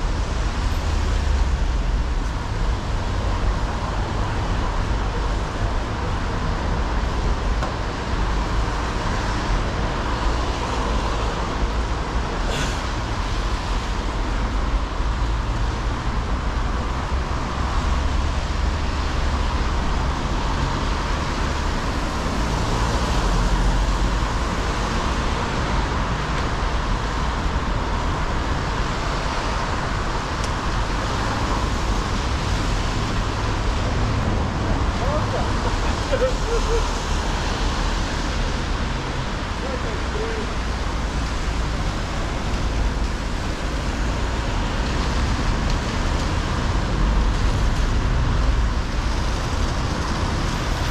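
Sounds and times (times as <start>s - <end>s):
road traffic on wet street: 0.0s - 50.9s.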